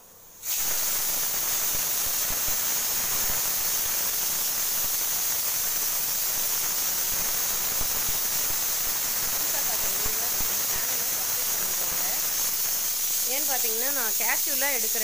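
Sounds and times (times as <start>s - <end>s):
pressure cooker venting steam: 0.0s - 15.0s.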